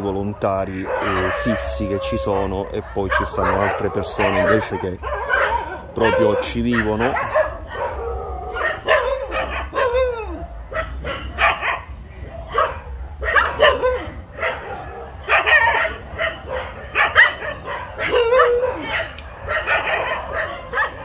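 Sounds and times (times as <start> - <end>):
dogs barking and yelping: 0.0 - 21.0
dogs whining: 0.0 - 21.0.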